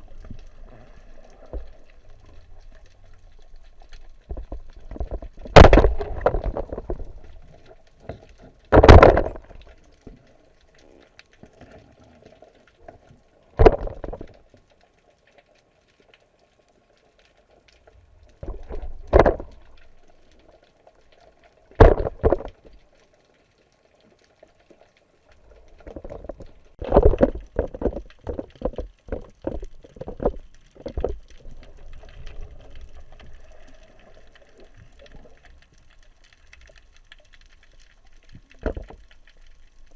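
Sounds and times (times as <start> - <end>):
water splashing and gurgling: 0.0 - 15.0, 15.6 - 39.9.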